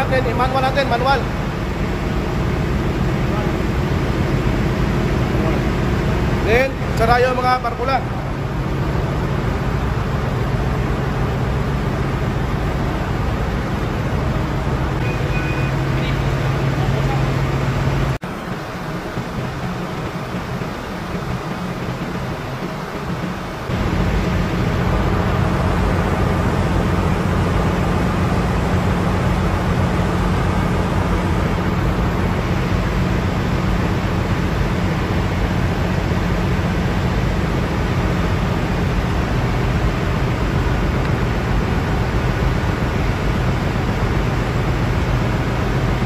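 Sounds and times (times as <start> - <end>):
ship machinery hum: 0.0 - 46.0.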